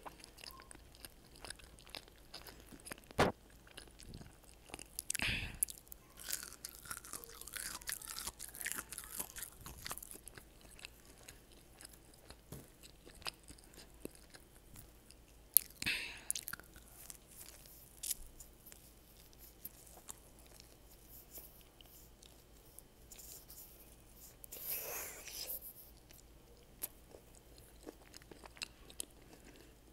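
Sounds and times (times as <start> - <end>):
crunchy chewing: 0.0 - 29.9.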